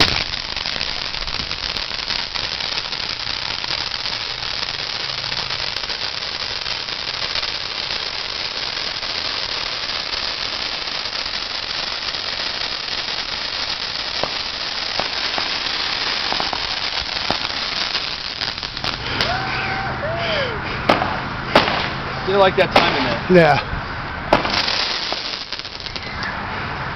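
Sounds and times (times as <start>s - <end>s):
sharp firework pops: 0.0s - 19.4s, 20.9s - 22.0s, 22.7s - 23.2s, 24.3s - 26.4s
firecrackers crackling: 0.0s - 26.9s.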